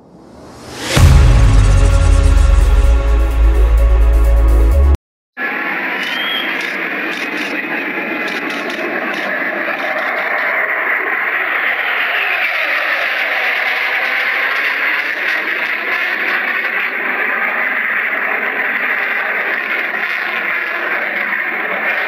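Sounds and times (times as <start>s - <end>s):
jet engine rushing: 0.0s - 22.0s.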